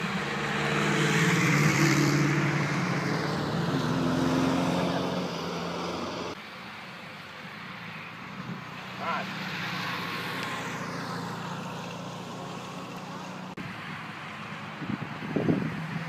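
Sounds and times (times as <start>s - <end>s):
cars driving past: 0.0s - 16.0s
tyre and road noise: 0.0s - 16.0s.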